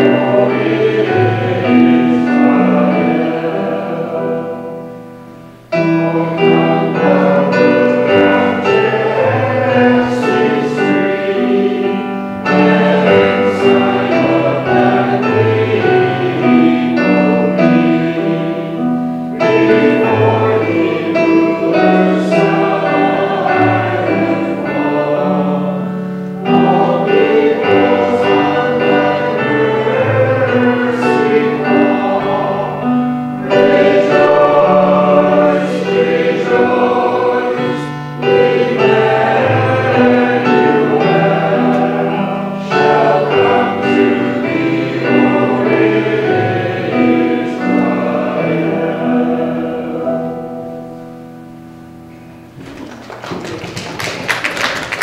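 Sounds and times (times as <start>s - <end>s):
choir singing chords: 0.0s - 52.8s.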